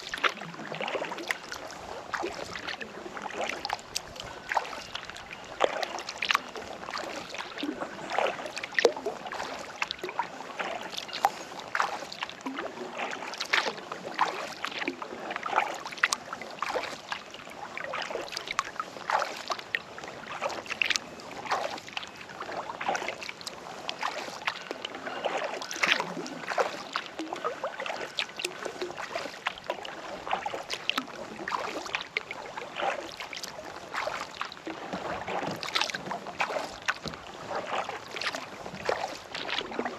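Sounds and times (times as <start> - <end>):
kayak paddle splashing water: 0.0 - 39.9
water dripping off paddle: 0.0 - 39.9.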